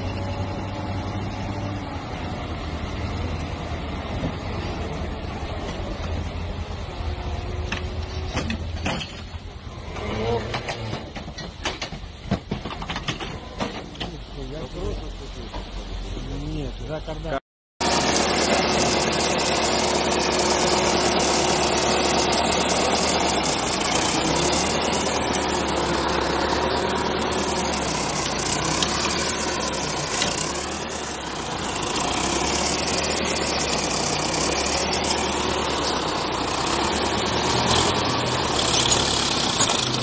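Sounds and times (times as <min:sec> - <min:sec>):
heavy vehicle engine running: 0:00.0 - 0:40.0.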